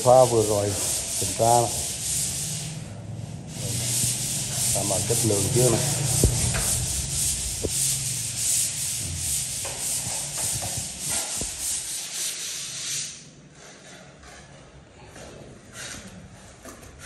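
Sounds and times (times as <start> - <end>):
sandpaper rubbing on a wall: 0.0 - 14.1.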